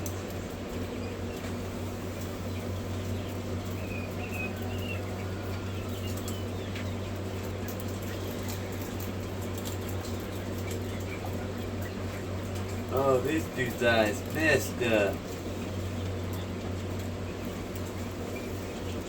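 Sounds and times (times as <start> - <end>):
birds tapping and scratching: 0.0 - 19.0
electrical fan hum: 0.0 - 19.0
chick peeps: 0.1 - 19.0.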